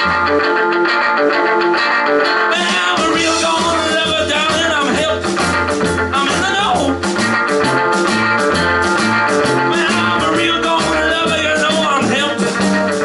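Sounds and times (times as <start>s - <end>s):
bass line: 0.0s - 13.0s
electric guitar: 0.0s - 13.0s
steady drums: 0.0s - 13.0s.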